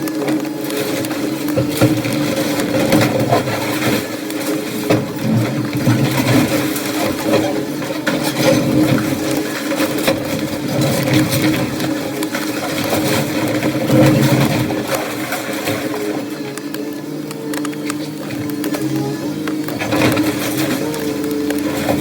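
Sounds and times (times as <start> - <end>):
demolition debris crunching: 0.0 - 22.0
excavator diesel engine running: 0.0 - 22.0.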